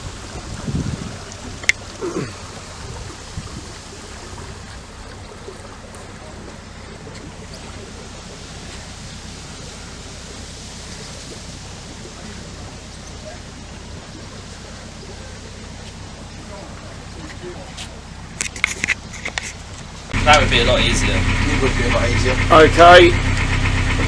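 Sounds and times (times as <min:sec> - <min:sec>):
water rushing past boat: 0:00.0 - 0:24.0.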